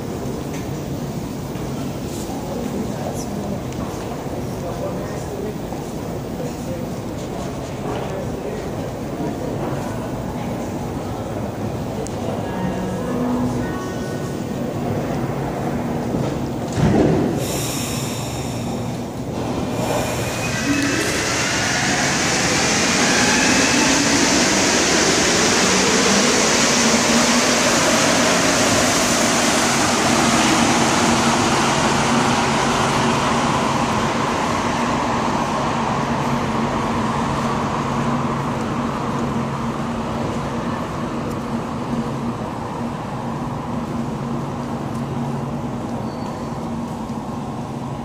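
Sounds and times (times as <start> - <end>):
metro train rumbling: 0.0 - 48.0.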